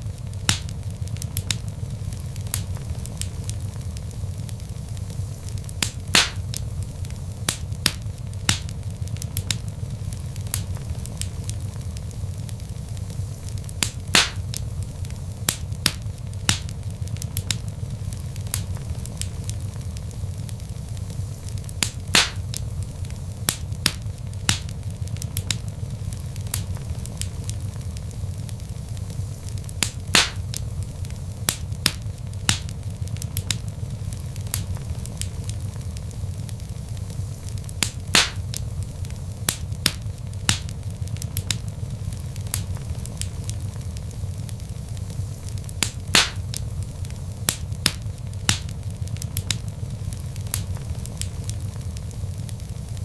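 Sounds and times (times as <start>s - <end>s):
log fire crackling: 0.0s - 53.0s
low rumble of flames: 0.0s - 53.0s.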